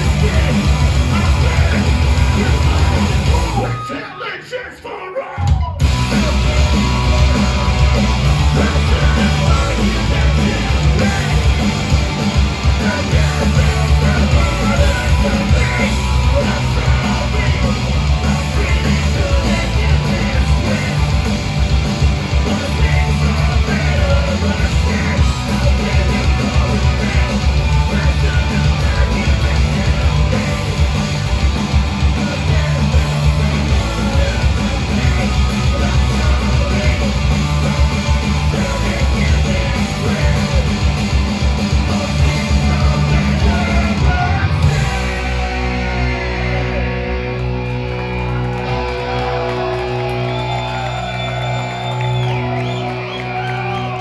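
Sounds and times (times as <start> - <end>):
punk rock band playing with vocals: 0.0 - 54.0.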